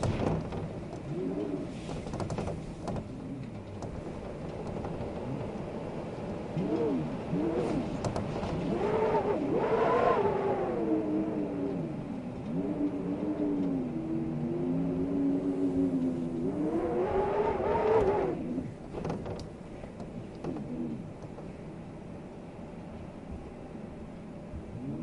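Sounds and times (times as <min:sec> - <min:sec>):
wind howling: 0:00.0 - 0:25.0.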